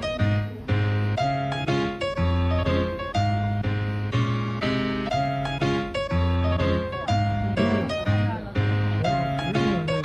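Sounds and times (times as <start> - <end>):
bass line: 0.0 - 10.0
keyboard chords: 0.0 - 10.0.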